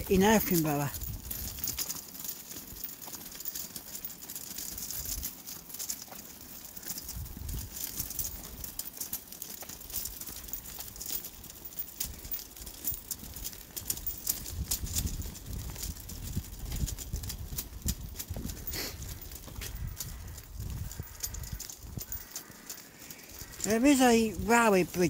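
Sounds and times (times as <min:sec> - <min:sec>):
footsteps on tarmac: 0:00.5 - 0:23.6.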